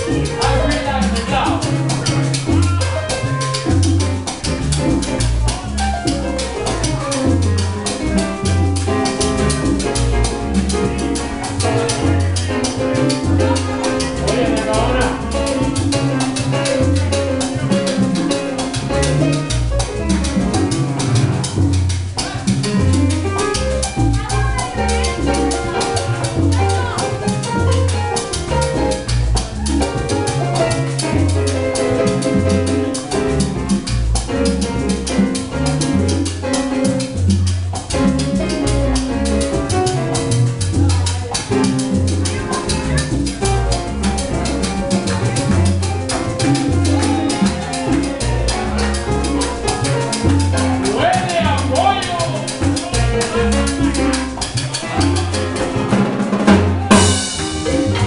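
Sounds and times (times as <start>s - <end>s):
latin hand percussion: 0.0s - 58.0s
repeating bass line: 0.0s - 58.0s
salsa band playing: 0.0s - 58.0s.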